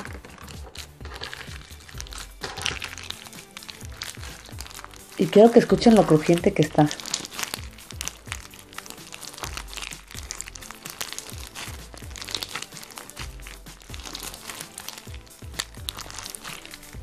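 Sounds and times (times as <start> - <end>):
background music with bass line: 0.0 - 17.0
slime with beads crackling: 0.0 - 17.0.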